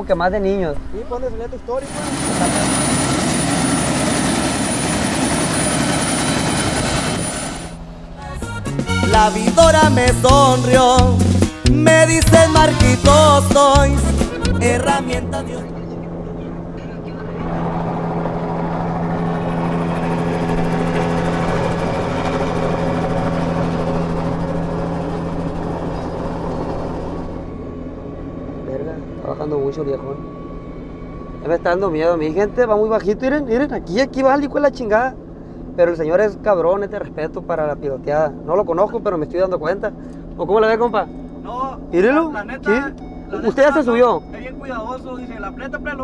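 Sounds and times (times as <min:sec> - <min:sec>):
helicopter rotor running: 0:00.0 - 0:11.2, 0:12.8 - 0:46.0.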